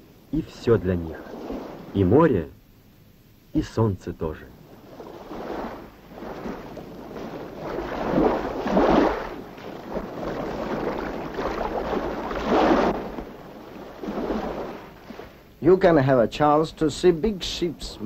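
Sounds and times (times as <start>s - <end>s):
steady low rumble: 0.0s - 18.0s
waves washing: 0.4s - 2.4s, 4.2s - 18.0s.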